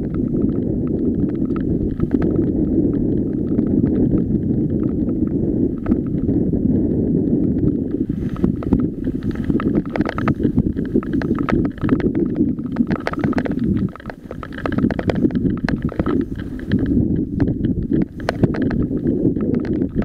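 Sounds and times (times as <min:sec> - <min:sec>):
bike rattling: 0:00.0 - 0:20.0
wind rumble on microphone: 0:00.0 - 0:20.0.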